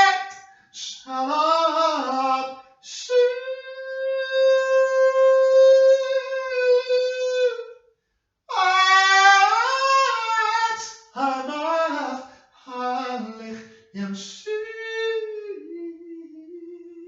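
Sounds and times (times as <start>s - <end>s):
person singing a chant solo: 0.0s - 7.7s, 8.5s - 17.0s.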